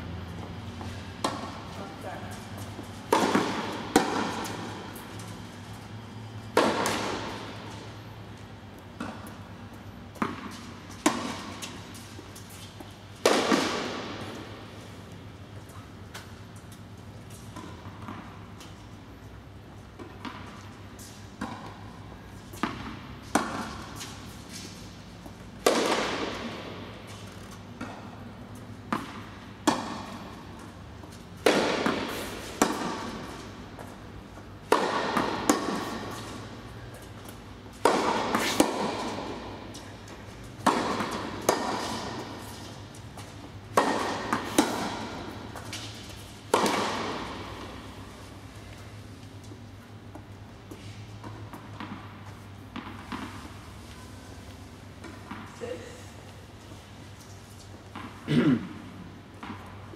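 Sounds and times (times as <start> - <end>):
racket hitting tennis ball: 0.3 - 15.1, 15.7 - 18.9, 19.8 - 56.0, 57.2 - 59.9.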